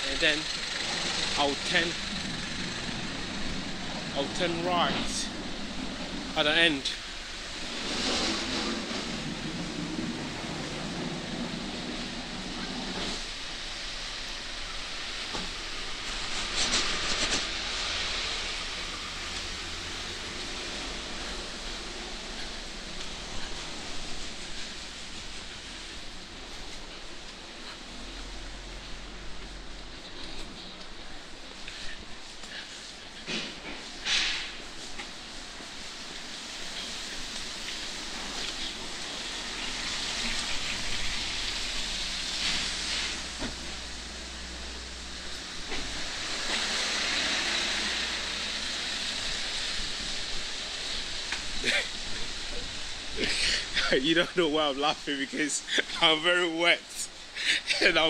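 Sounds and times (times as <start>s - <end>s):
rain hiss: 0.0s - 58.0s
wet street noise: 0.0s - 58.0s.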